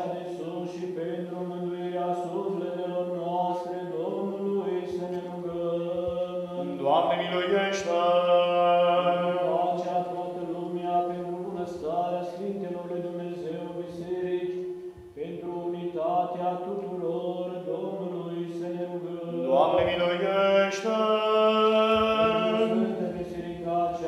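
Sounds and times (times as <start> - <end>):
liturgical chant: 0.0 - 24.0.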